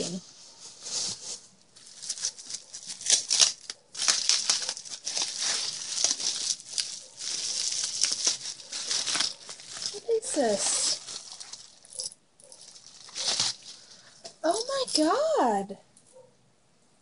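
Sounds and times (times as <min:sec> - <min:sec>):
wrapping crinkling: 0:00.0 - 0:15.3.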